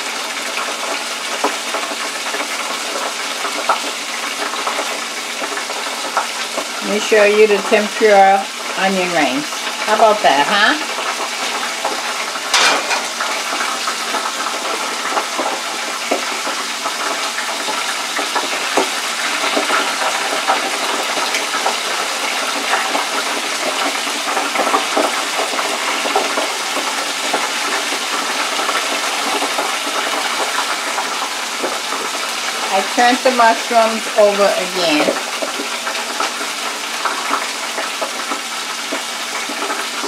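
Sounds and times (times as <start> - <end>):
food sizzling in hot oil: 0.0 - 40.0
oil crackles and pops: 0.0 - 40.0.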